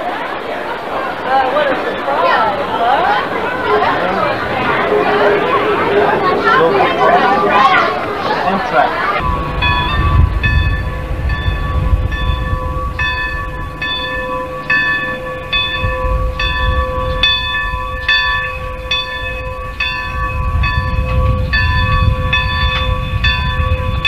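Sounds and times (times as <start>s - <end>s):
train rumble: 0.0s - 24.0s
bell ringing: 1.9s - 24.0s.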